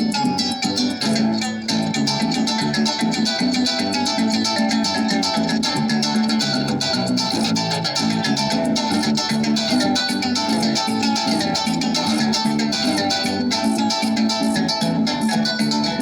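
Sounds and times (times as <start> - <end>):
harp plucked notes: 0.0 - 16.0.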